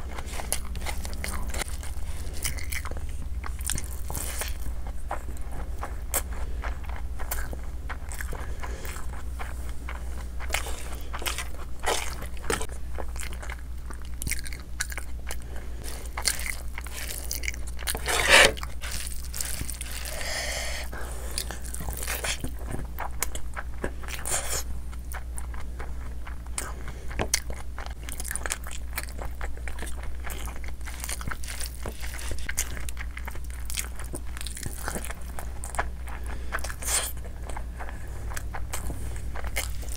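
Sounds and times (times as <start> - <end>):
close chewing and mouth clicks: 0.0 - 39.9.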